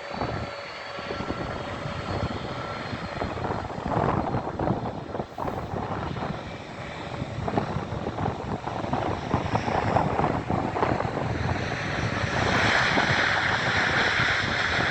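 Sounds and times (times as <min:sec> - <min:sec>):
jet engines idling: 0:00.0 - 0:14.9
wind buffeting microphone: 0:00.0 - 0:14.9.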